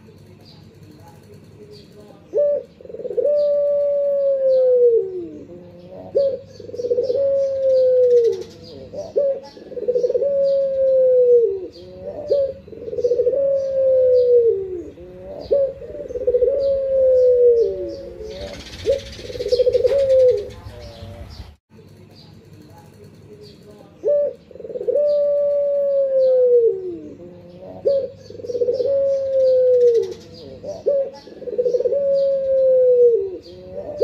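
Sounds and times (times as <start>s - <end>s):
dove cooing: 1.0s - 21.2s, 23.9s - 34.0s.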